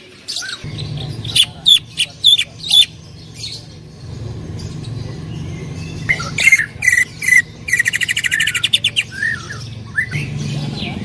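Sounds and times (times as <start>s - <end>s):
rapid bird trill: 0.3s - 10.6s
sharp ringing bird calls: 0.3s - 11.0s
bird singing loud bursts: 0.5s - 11.0s
steady low hum: 0.6s - 11.0s.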